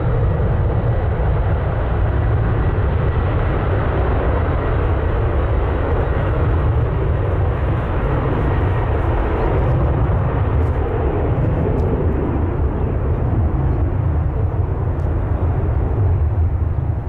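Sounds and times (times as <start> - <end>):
airplane engines passing: 0.0 - 17.0.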